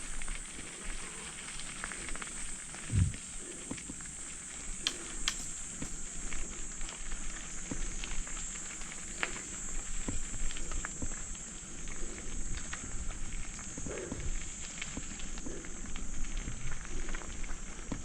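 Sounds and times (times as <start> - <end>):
steady high-pitched hiss: 0.0 - 18.0.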